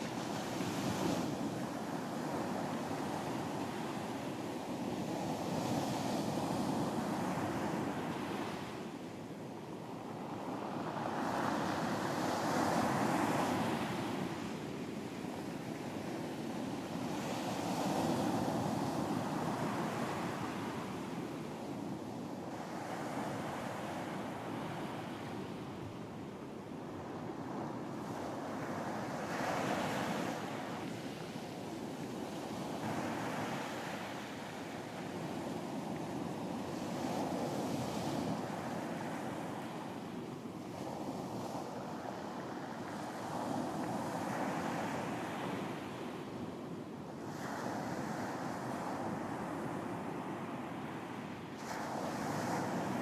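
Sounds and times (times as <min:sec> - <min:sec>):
ocean waves breaking on beach: 0:00.0 - 0:53.0
wind: 0:00.0 - 0:53.0.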